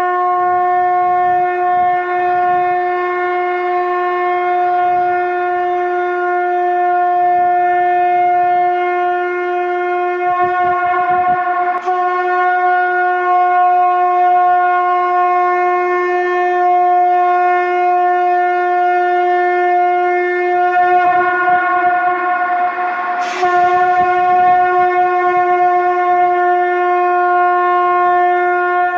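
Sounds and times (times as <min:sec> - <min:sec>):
conch shell blasts: 0:00.0 - 0:28.9.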